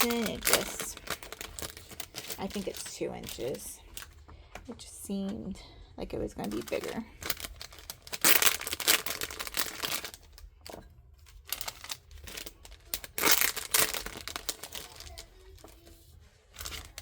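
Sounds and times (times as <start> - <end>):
plastic packaging crinkling: 0.0 - 4.7, 6.4 - 17.0.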